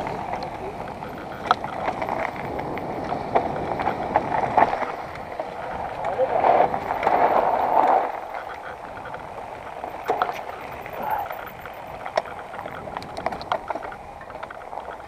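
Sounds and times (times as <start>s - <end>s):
bike rattling over bumps: 0.0s - 15.0s
bike tyres rolling over dirt: 0.0s - 15.0s.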